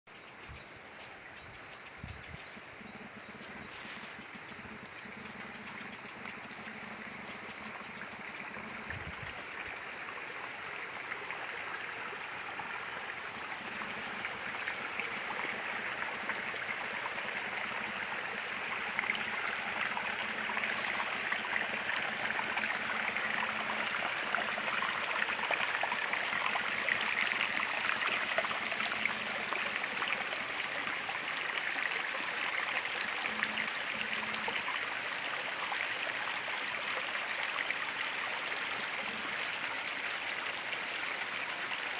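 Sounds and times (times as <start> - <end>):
stream running over rocks: 0.1 - 41.9.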